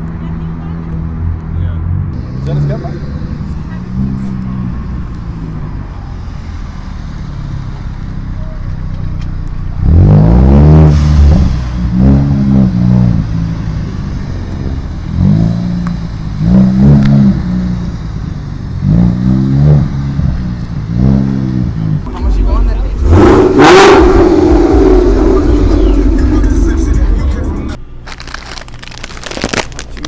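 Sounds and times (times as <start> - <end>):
engine idling and revving: 0.0 - 28.3.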